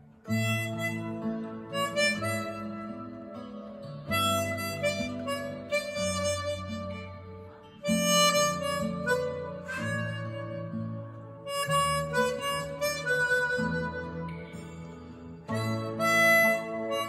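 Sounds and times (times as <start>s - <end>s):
harmonica playing slow melody: 0.0s - 17.0s.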